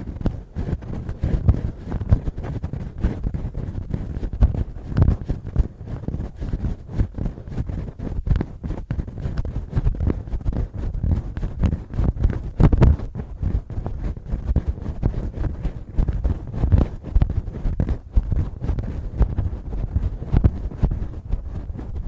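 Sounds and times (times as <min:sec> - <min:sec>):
fingernails scratching microphone: 0:00.0 - 0:22.0.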